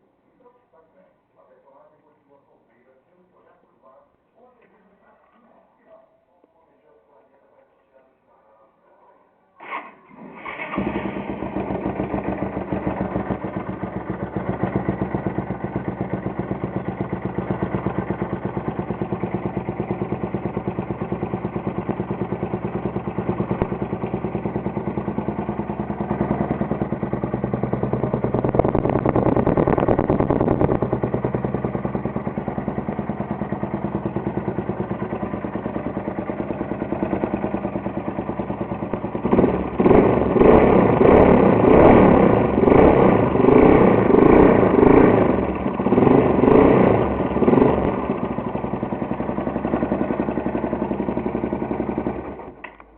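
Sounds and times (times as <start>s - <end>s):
motorcycle engine idling and revving: 9.6s - 52.9s.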